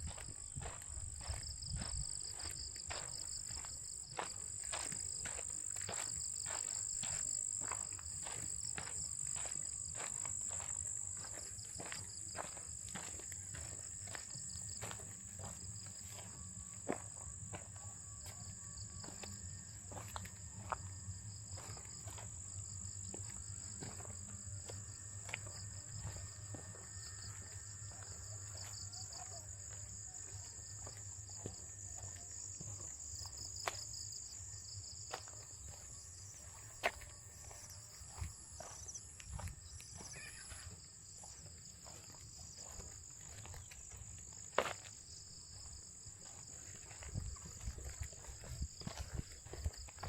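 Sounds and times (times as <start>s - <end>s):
pulsing insect trill: 0.0s - 50.0s.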